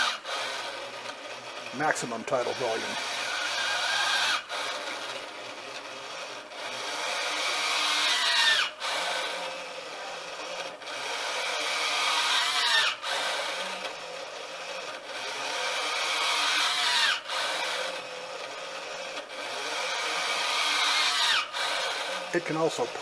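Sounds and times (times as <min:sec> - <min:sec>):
servo motor whining: 0:00.0 - 0:23.0.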